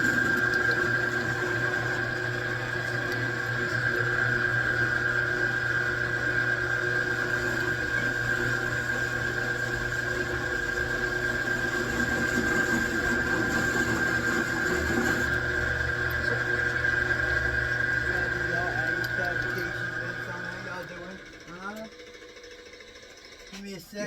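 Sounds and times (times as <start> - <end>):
machine tool humming and whining: 0.0 - 24.0.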